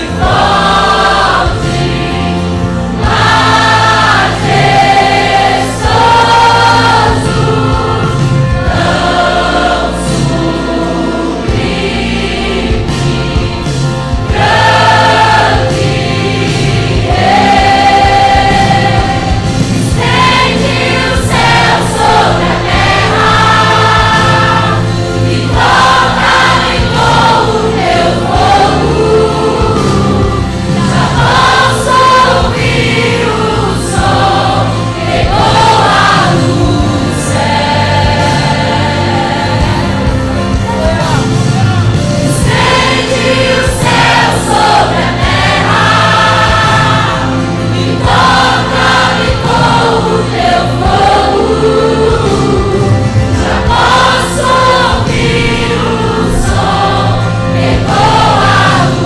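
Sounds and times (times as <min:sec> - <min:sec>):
choir singing worship music: 0:00.0 - 0:59.0
instrumental accompaniment: 0:00.0 - 0:59.0.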